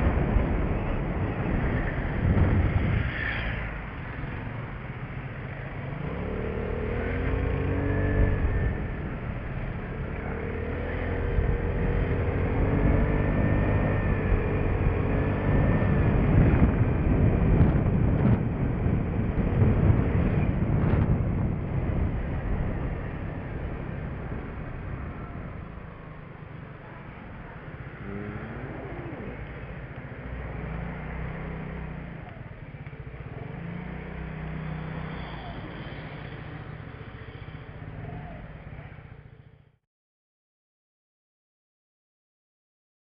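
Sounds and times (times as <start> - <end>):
wind rumble on microphone: 0.0 - 39.1.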